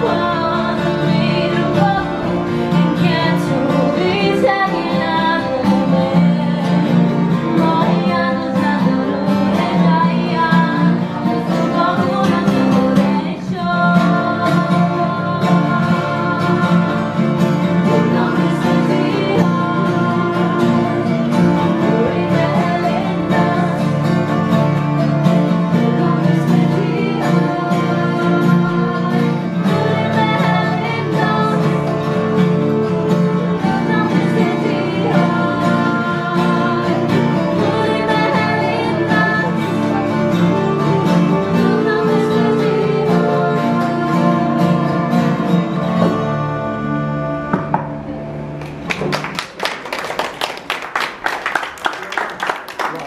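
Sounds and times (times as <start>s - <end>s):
women singing: 0.0s - 47.9s
strummed acoustic guitars: 0.0s - 49.6s.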